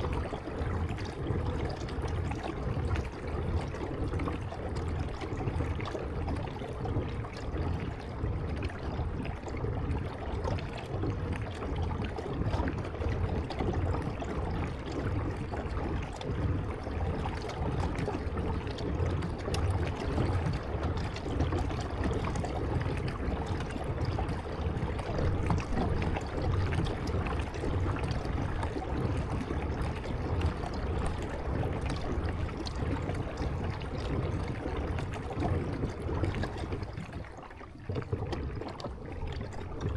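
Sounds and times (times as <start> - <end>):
water splashing around kayak: 0.0 - 39.9.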